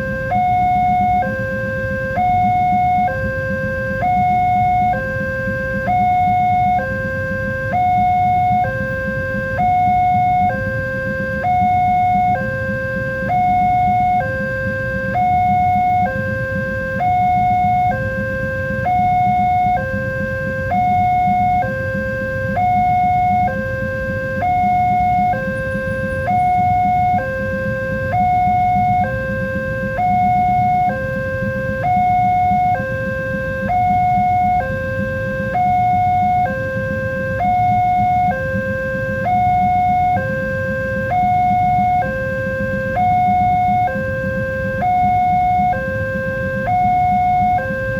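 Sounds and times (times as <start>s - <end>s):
two-tone crossing alarm: 0.0s - 47.9s.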